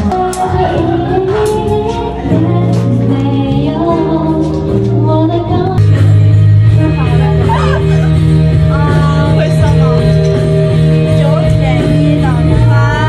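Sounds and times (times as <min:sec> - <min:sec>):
pop music with singing: 0:00.0 - 0:13.0.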